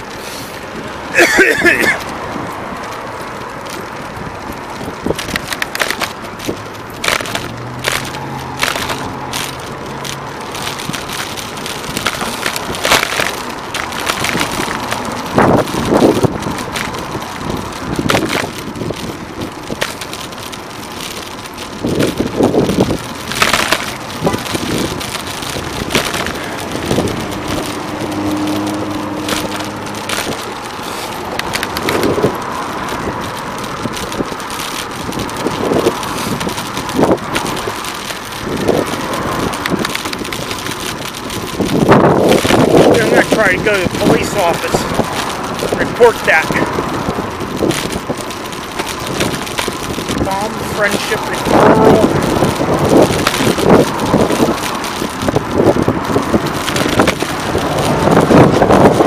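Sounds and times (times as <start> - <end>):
car engine humming: 0.0 - 59.0
crackling rattles: 0.0 - 59.0
wind and road noise: 0.0 - 59.0.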